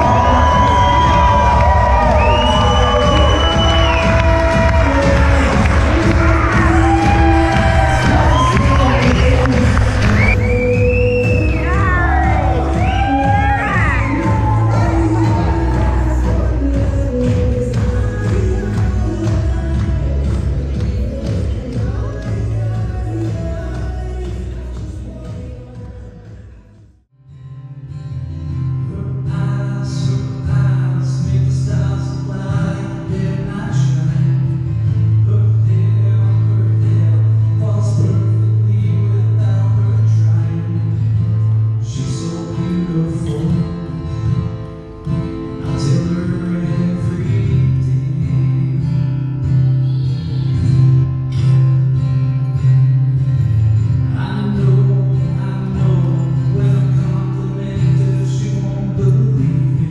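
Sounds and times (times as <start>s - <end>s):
man singing: 0.0s - 26.8s, 28.7s - 51.7s, 54.0s - 59.9s
acoustic guitar: 0.0s - 59.9s.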